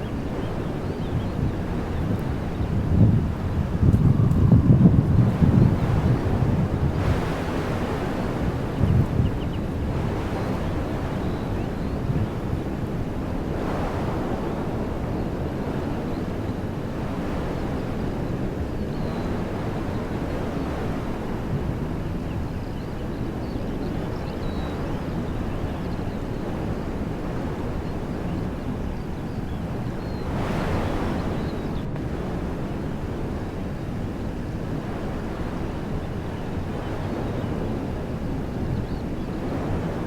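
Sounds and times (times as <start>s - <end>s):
wind blowing through trees: 0.0s - 40.0s
wind rumble on microphone: 0.0s - 40.0s.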